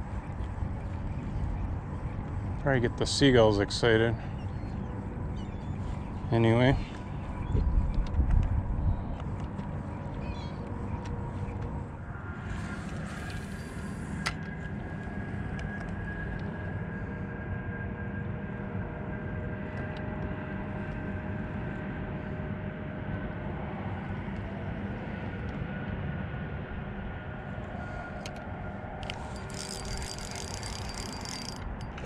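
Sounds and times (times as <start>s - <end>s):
faint whining tones: 0.0s - 32.0s
low motor drone: 0.0s - 32.0s.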